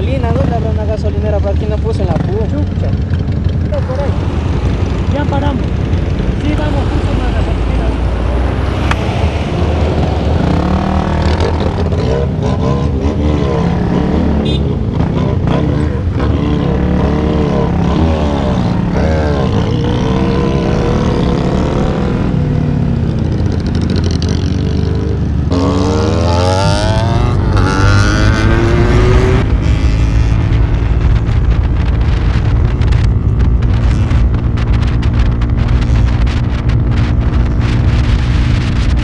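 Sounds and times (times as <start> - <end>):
motorcycle engines revving: 0.0 - 39.0
motorcycle accelerating hard: 2.1 - 39.0.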